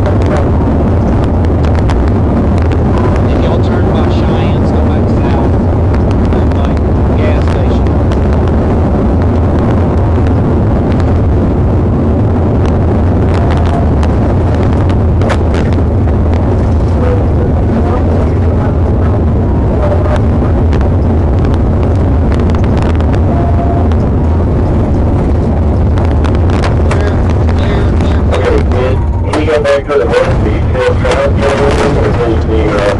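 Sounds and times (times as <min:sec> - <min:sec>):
car engine and road noise: 0:00.0 - 0:32.9.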